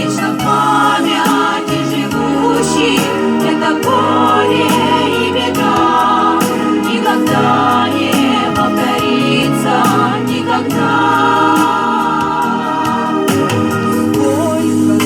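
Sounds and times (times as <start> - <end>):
vocal ensemble singing: 0.0 - 15.0.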